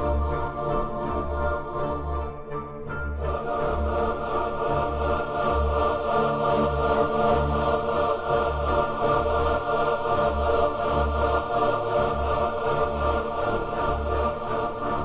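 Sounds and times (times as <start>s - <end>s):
choir-like pad chords: 0.0s - 15.0s.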